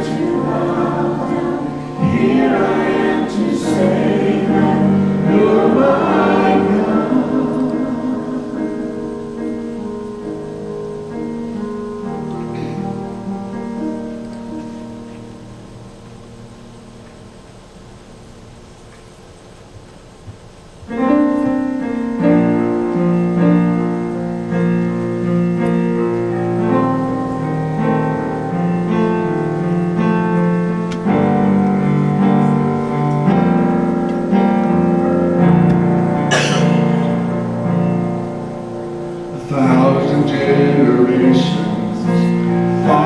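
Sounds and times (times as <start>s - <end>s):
slow piano chords on keyboard: 0.0s - 43.0s.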